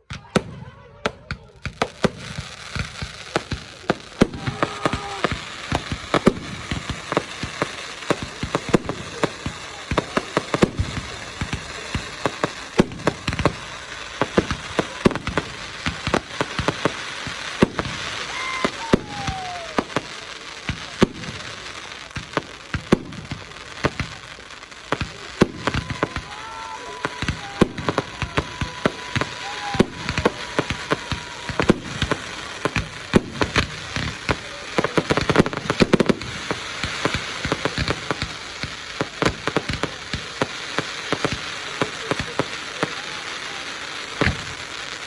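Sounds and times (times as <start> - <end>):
fireworks bangs and cracks: 0.0 - 45.0
fireworks crackle: 0.0 - 45.0
fireworks whistles: 0.0 - 45.0.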